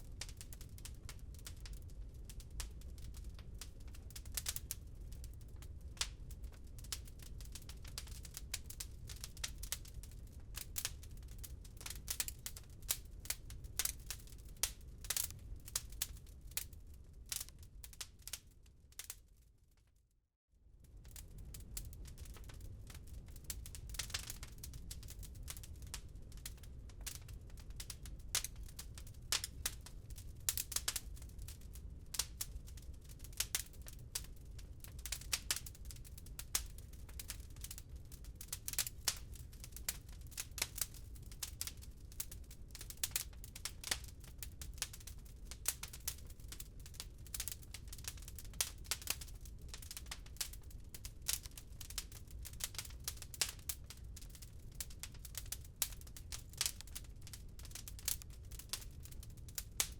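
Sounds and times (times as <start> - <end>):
wood fire crackling: 0.0 - 19.9, 20.8 - 59.9
low rumble of fire: 0.0 - 20.0, 20.6 - 59.9.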